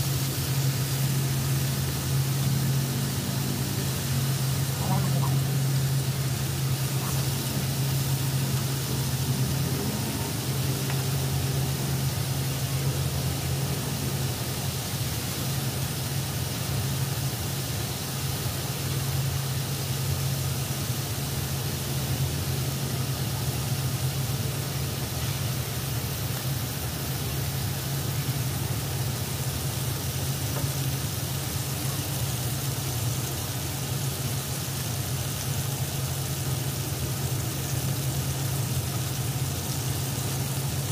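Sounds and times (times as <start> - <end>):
cooling fan hum: 0.0 - 40.9
pork sizzling in oil: 0.0 - 40.9.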